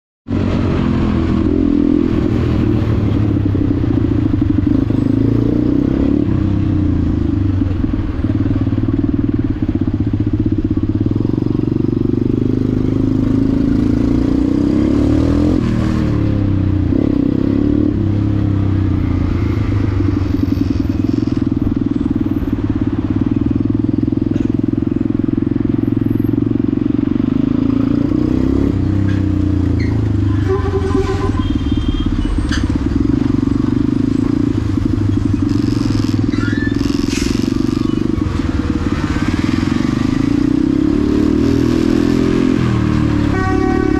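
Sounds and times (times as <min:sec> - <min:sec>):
motorcycle engine running: 0:00.3 - 0:43.9.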